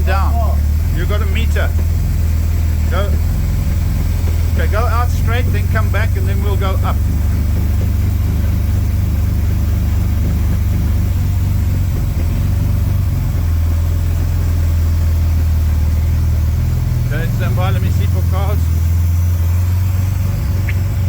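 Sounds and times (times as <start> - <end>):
car engine running at low revs: 0.0 - 21.0.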